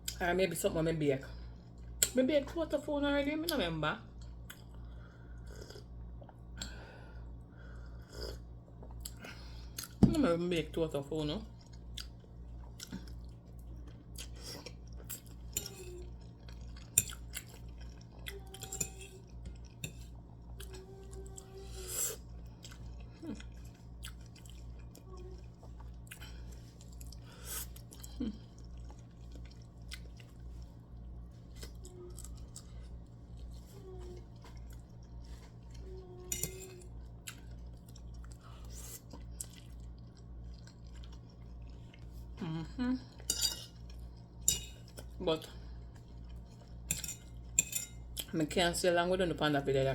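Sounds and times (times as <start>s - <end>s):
steady low hum: 0.0s - 49.9s
person chewing food: 4.2s - 6.8s, 7.6s - 10.0s, 11.5s - 42.4s, 43.0s - 48.3s.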